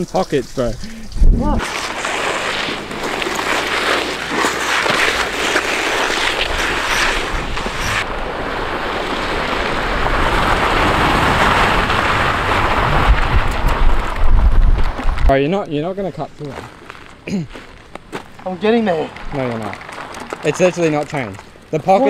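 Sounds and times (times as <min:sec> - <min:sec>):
body sliding over gravel: 0:01.5 - 0:22.0
clothing scraping along road: 0:01.6 - 0:22.0.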